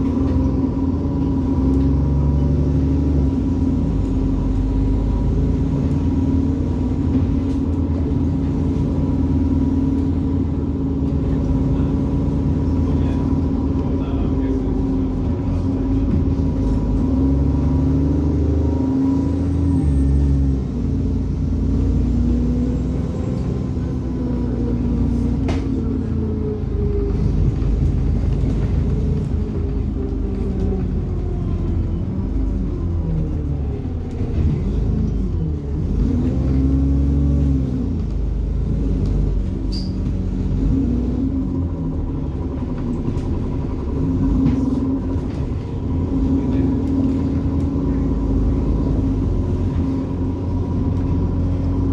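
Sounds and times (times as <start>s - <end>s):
bus engine pulling hard: 0.0s - 51.9s.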